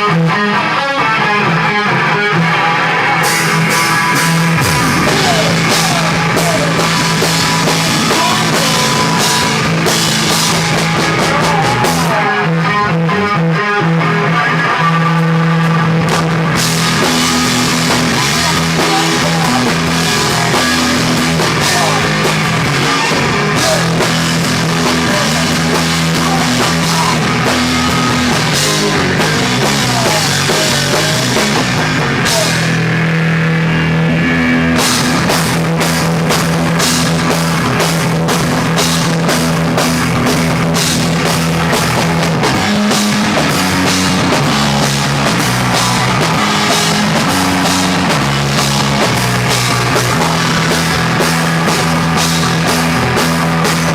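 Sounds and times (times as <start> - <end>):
live rock band playing: 0.0 - 53.9
drums and cymbals: 3.1 - 12.3, 15.6 - 33.1, 34.7 - 53.9.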